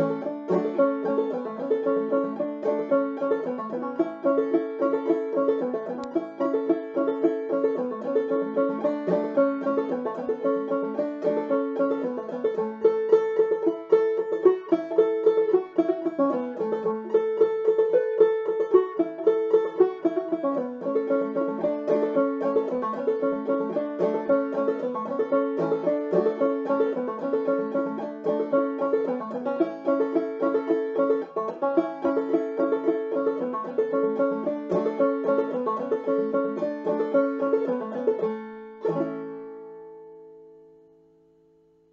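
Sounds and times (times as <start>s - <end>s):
banjo playing plucked notes: 0.0s - 41.4s.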